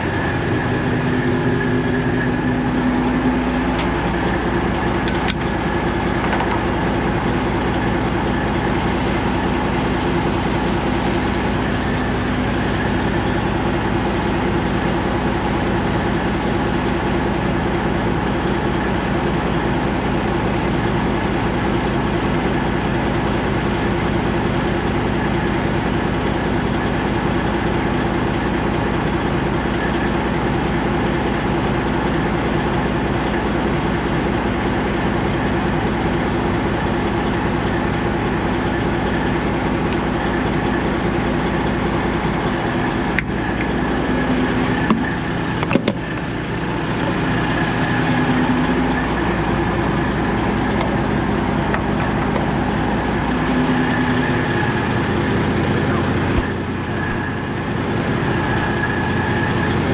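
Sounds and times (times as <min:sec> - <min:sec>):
diesel truck engine running: 0:00.0 - 0:59.9
road noise: 0:00.0 - 0:59.9.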